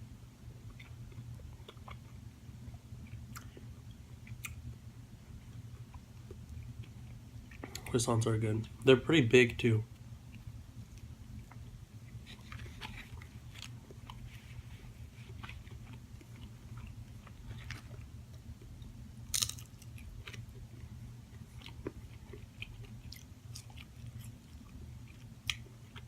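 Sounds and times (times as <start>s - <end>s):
person chewing and crunching food: 0.6s - 4.7s, 5.4s - 8.0s, 10.3s - 26.0s.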